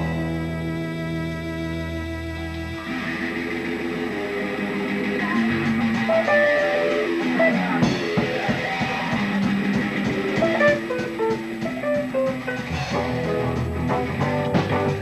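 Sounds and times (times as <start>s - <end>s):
drums: 0.0s - 15.0s
electric guitar melody: 0.0s - 15.0s.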